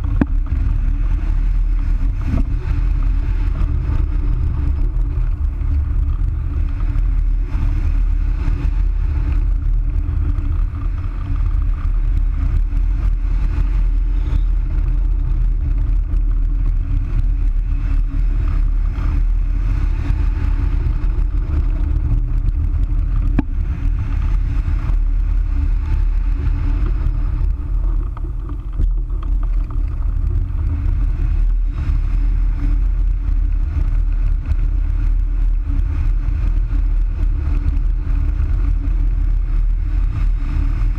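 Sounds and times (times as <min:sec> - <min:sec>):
wind buffeting camera: 0:00.0 - 0:40.9.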